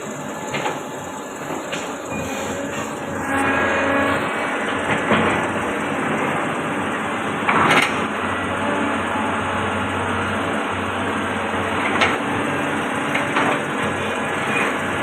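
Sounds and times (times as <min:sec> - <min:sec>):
excavator diesel engine running: 0:00.0 - 0:15.0
tonal hydraulic whine: 0:00.0 - 0:15.0.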